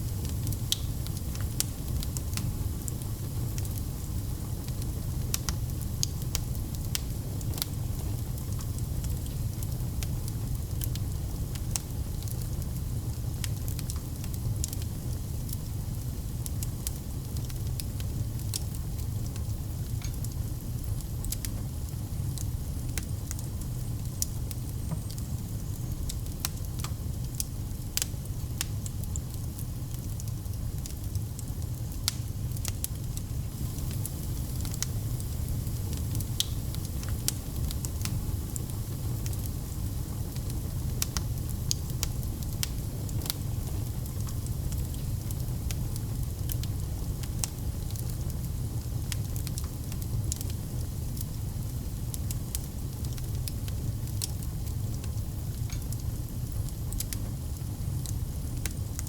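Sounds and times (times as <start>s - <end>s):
fire crackling and popping: 0.0s - 59.0s
low rumble of flames: 0.0s - 59.0s.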